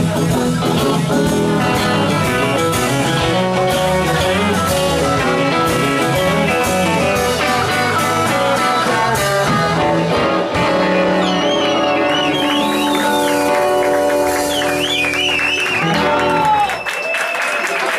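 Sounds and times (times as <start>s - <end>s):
lead guitar bending high notes: 0.0s - 16.8s
rock band playing: 0.0s - 17.5s.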